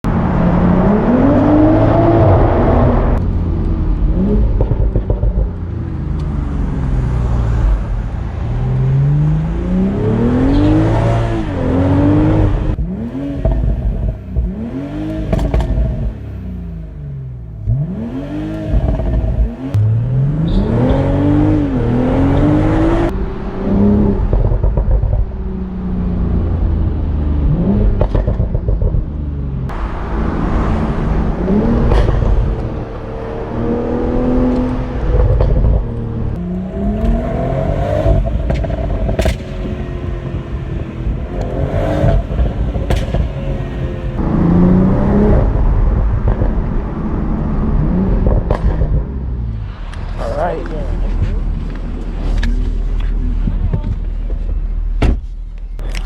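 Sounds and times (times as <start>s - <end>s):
exhaust cracks: 0.0s - 8.6s, 9.7s - 22.9s, 24.0s - 56.0s
car engine revving: 0.0s - 56.0s.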